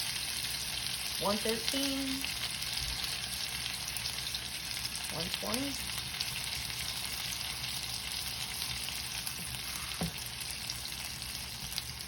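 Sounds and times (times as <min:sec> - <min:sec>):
steak sizzling in a pan: 0:00.0 - 0:12.0.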